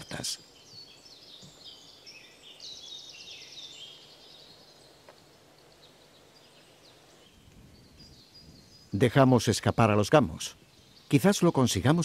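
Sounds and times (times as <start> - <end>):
faint birdsong trill and chirps: 0.0 - 12.0.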